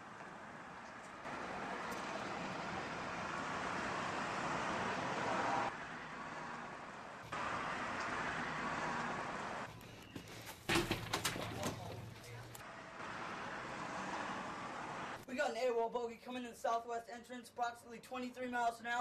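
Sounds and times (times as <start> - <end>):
cars going by: 0.0 - 15.3.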